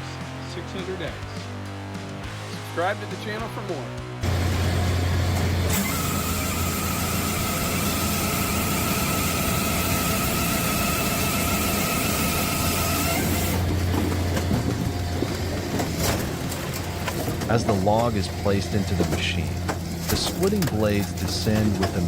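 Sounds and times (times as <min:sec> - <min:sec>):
wood splitter low hum: 0:04.2 - 0:22.0.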